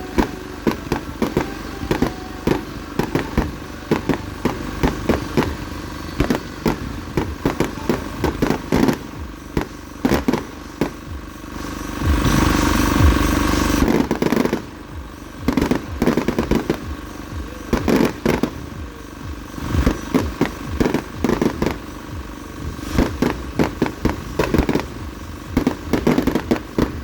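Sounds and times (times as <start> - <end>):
fireworks cracking and crackling: 0.0 - 27.0
fireworks rushing burst: 0.0 - 27.0.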